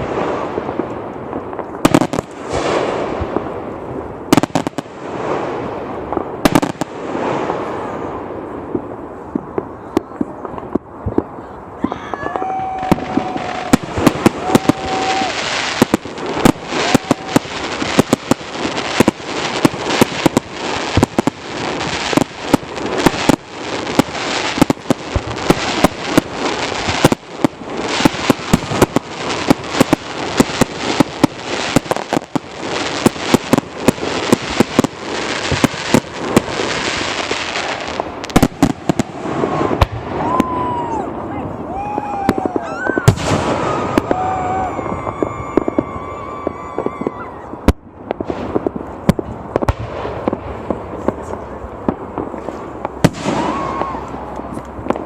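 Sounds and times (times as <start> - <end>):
fireworks booming: 0.0 - 55.0
fireworks crackling: 0.0 - 55.0.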